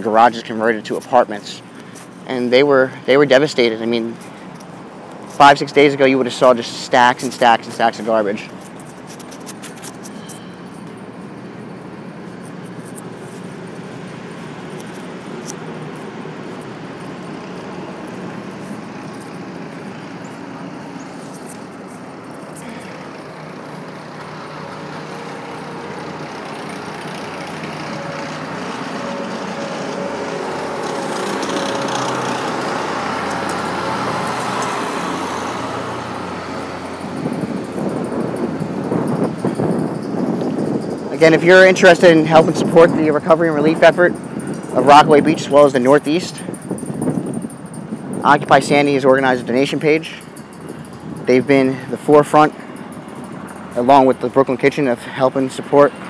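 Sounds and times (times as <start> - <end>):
street traffic: 0.0 - 56.0.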